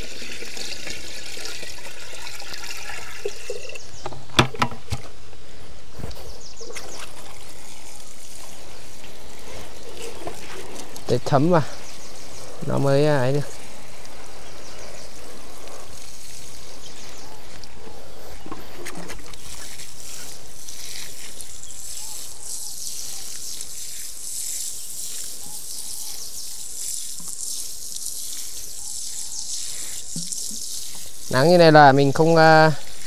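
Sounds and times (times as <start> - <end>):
water pouring onto soil: 0.0 - 5.2, 6.1 - 33.0.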